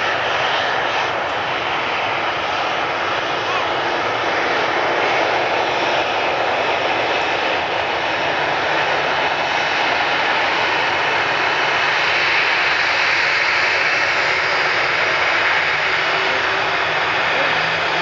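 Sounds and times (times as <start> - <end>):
jet airliner climbing: 0.0 - 18.0.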